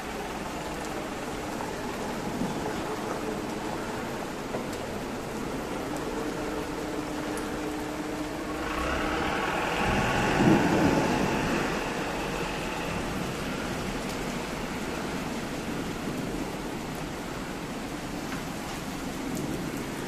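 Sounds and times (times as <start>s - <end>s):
rain hissing: 0.0s - 20.0s
thunder rumbling: 1.1s - 17.3s.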